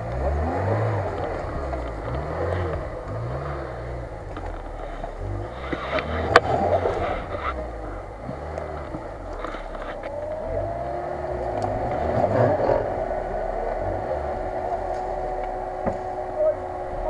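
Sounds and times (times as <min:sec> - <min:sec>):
steady whine: 0:00.0 - 0:17.0
vehicle engine under load: 0:00.0 - 0:17.0.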